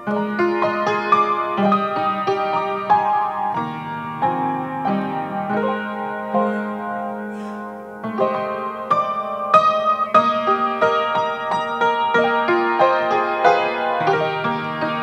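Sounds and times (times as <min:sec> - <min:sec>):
grand piano playing chords: 0:00.0 - 0:15.0.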